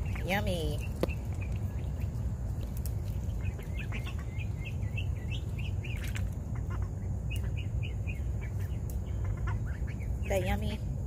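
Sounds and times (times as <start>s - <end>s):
ducklings peeping: 0.0s - 11.0s
low rumble: 0.0s - 11.0s.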